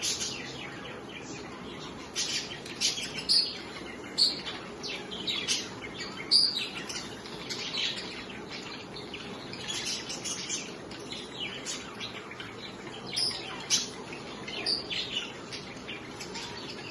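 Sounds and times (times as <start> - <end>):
budgies chattering and chirping: 0.0 - 16.9.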